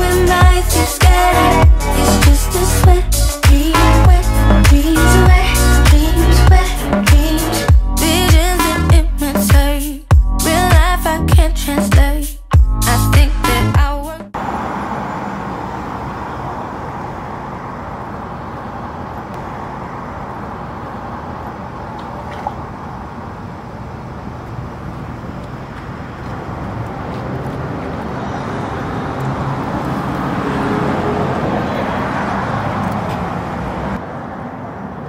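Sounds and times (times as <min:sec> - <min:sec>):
cars passing on city street: 0:00.0 - 0:35.0.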